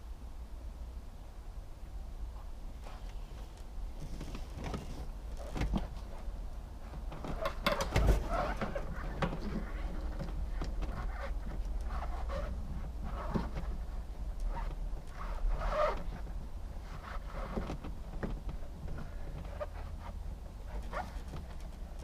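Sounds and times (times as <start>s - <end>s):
rubber and plastic rubbing: 2.8s - 21.9s.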